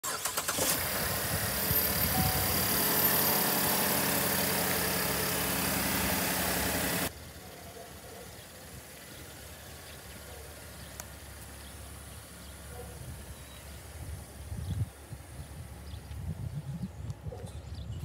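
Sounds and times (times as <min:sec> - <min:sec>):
car engine cranking and idling: 0:00.0 - 0:16.2.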